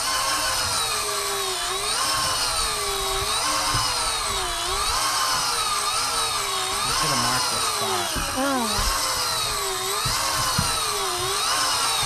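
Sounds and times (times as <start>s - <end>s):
electric fishing reel motor whining: 0.0s - 12.0s.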